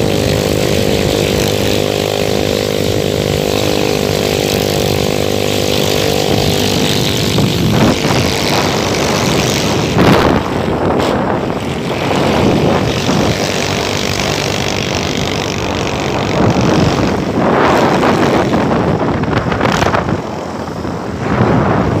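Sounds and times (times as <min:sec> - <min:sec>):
vehicle engine running: 0:00.0 - 0:22.0
wind buffeting microphone: 0:00.0 - 0:22.0.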